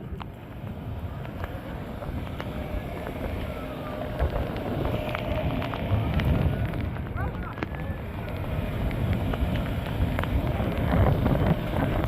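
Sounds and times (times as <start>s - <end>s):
vehicle engine running low: 0.0s - 12.0s
wind on microphone: 0.0s - 12.0s.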